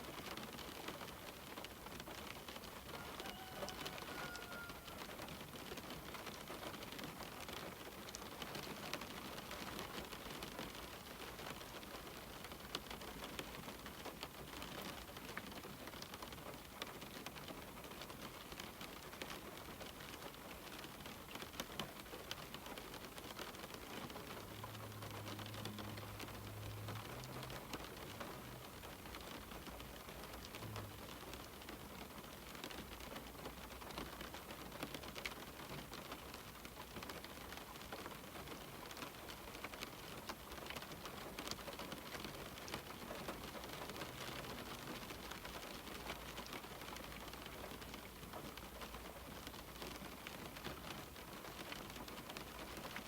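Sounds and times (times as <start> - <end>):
rain pattering on window: 0.0 - 53.0.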